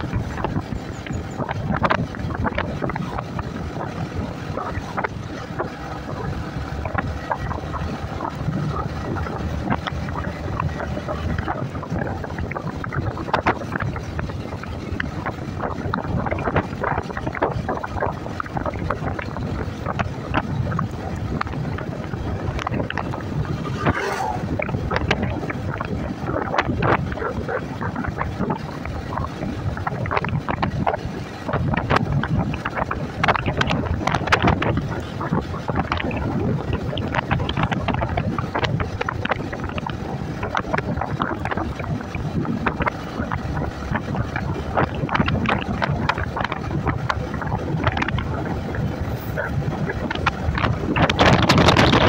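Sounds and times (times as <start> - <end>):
road noise: 0.0 - 52.0
wind buffeting microphone: 0.0 - 52.0.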